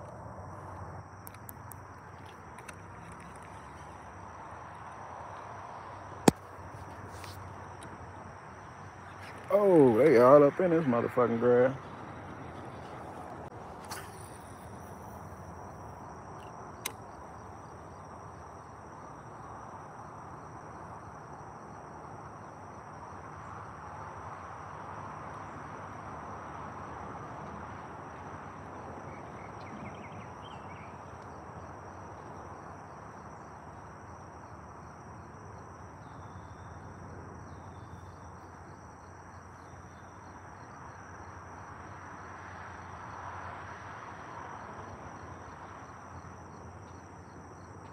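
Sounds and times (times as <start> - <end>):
insects trilling: 0.0 - 47.9
outdoor background hiss: 0.0 - 47.9.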